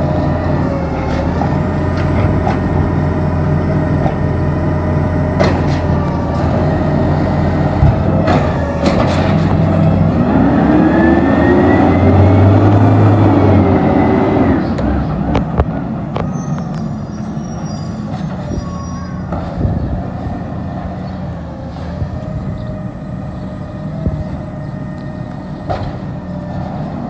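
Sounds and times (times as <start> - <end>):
truck diesel engine revving: 0.0 - 18.6, 19.2 - 27.0.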